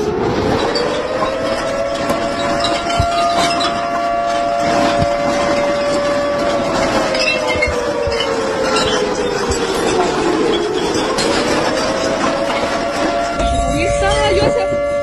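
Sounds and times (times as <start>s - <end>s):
siren-like wail: 0.0s - 15.0s.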